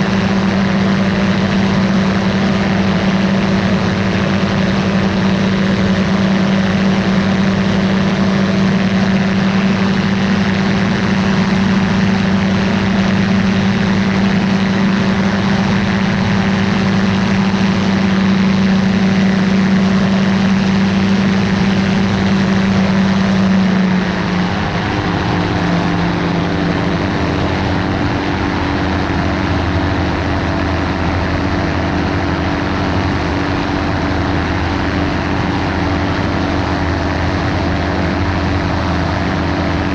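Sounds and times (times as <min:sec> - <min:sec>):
ultralight aircraft engine and propeller: 0:00.0 - 0:39.9.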